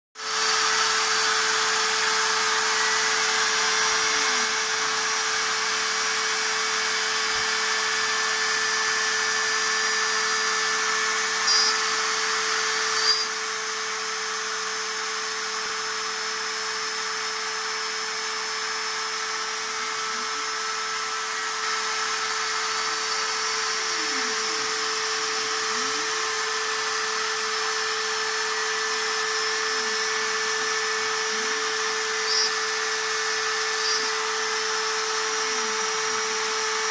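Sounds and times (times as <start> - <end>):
router spindle whine: 0.2 - 36.9.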